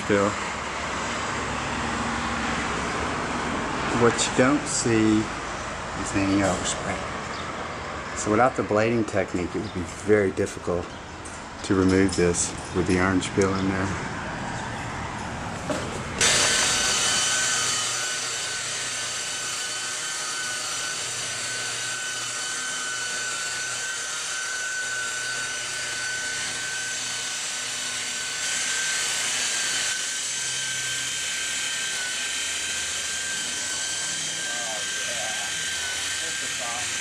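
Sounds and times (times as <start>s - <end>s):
rotary polisher high whine: 0.0s - 10.8s, 12.3s - 37.0s.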